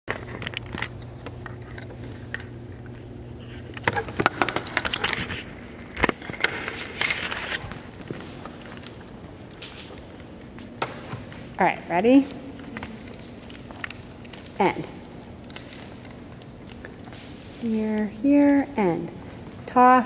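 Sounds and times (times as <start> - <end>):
steady low hum: 0.1 - 20.0.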